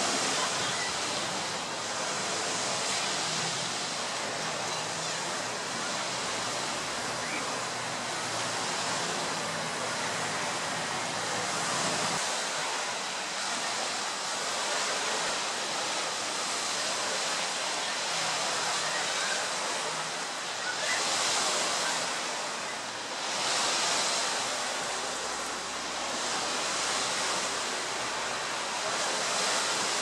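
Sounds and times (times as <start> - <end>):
sea surf: 0.0 - 30.0
wind: 0.0 - 30.0.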